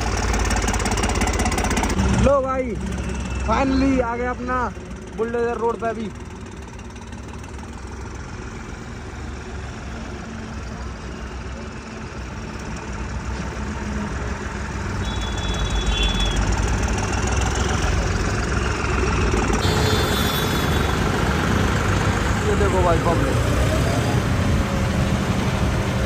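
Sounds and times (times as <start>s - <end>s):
bulldozer engine running: 0.0s - 26.0s.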